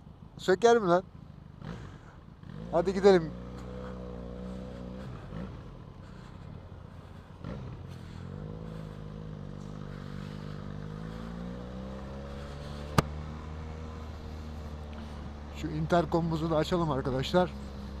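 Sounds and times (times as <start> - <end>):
motorcycle engine riding off: 1.3 - 16.0.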